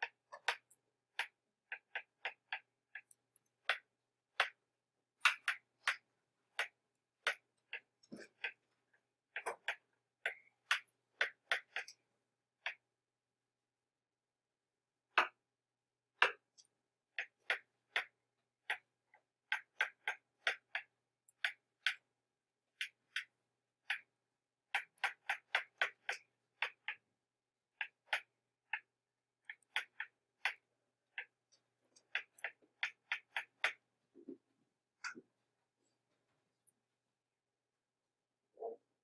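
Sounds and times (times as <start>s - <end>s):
stylus clicking on tablet screen: 0.0s - 13.0s, 15.1s - 37.0s.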